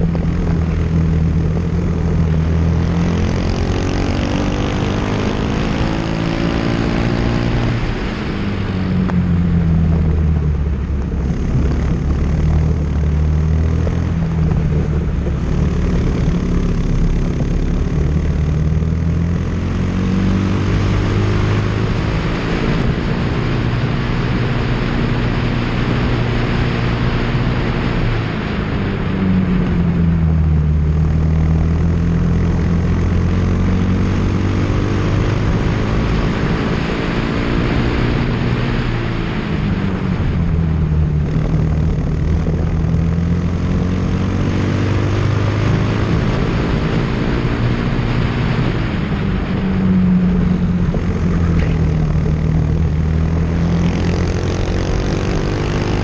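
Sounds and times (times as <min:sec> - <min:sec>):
race car engine revving: 0:00.0 - 0:29.9, 0:30.8 - 0:56.0
wind and road rush: 0:00.0 - 0:56.0.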